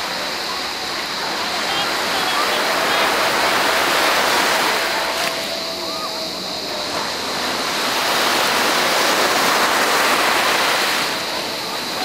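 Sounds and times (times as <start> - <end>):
waves washing onto sand: 0.0 - 12.0.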